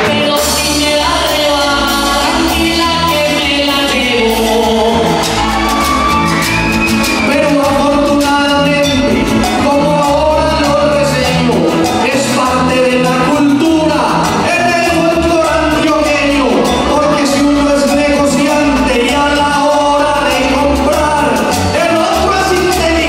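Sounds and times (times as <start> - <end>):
man singing into a microphone: 0.0 - 23.0
strummed guitars: 0.0 - 23.0.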